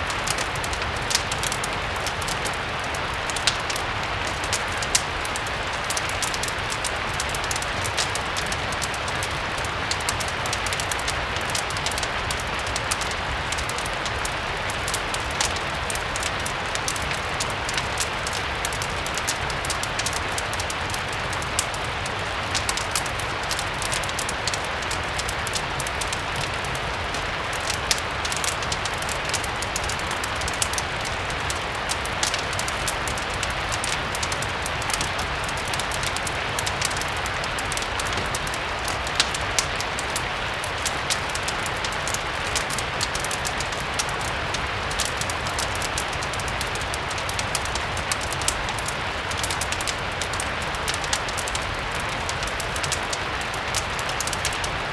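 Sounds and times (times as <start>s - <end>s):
fireplace fire crackling: 0.0s - 54.9s
steady rain: 0.0s - 54.9s.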